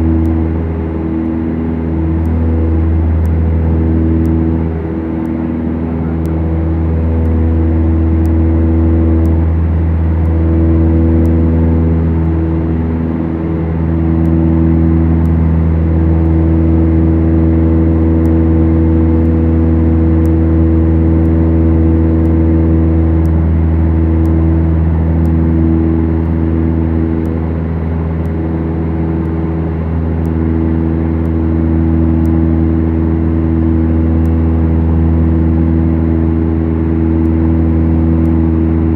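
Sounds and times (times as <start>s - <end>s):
propeller airplane engines running: 0.0s - 38.9s.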